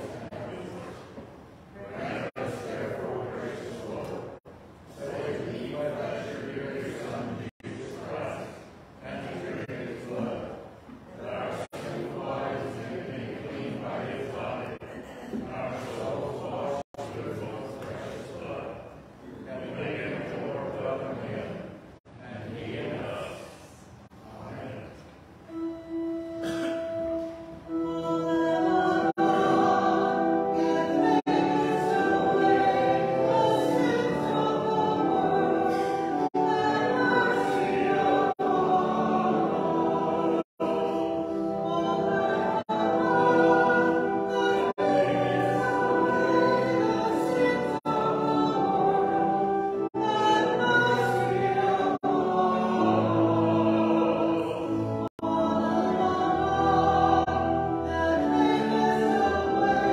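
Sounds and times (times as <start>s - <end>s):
choir singing: 0.0s - 0.8s, 1.8s - 14.9s, 15.5s - 18.8s, 19.4s - 23.5s, 25.5s - 59.9s.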